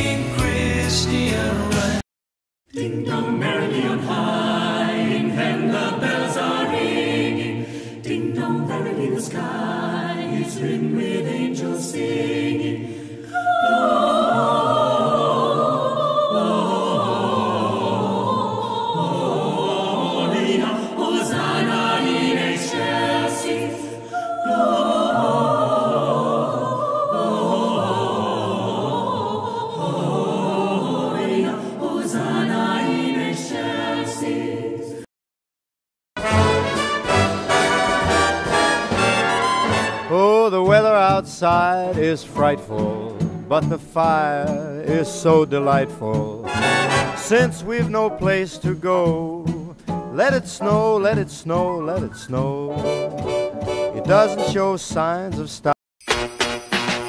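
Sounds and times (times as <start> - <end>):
choir singing in parts: 0.0 - 2.0, 2.7 - 35.1, 36.2 - 55.2.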